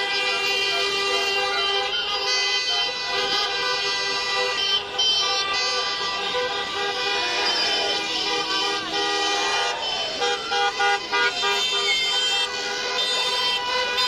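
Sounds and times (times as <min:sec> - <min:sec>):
car horns honking: 0:00.0 - 0:14.0.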